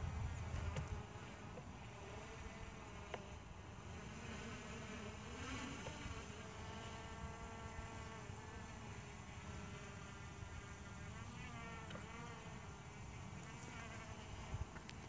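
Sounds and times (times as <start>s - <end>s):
quadcopter motors buzzing: 0.1s - 15.0s.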